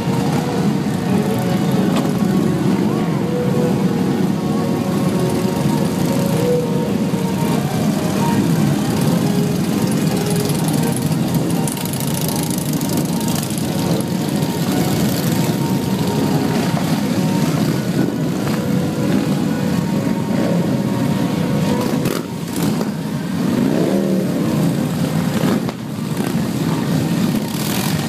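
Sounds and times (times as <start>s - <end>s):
motorcycle engines idling: 0.0s - 28.0s.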